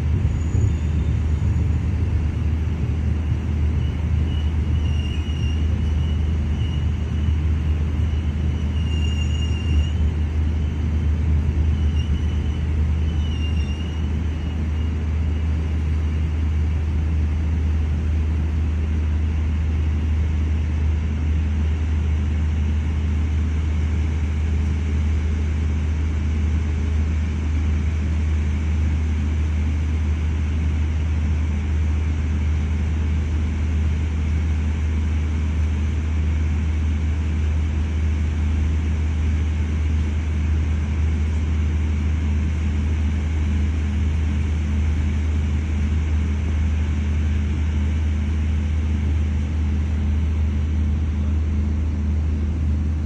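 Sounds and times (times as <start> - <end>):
train hum and rumble: 0.0 - 53.0.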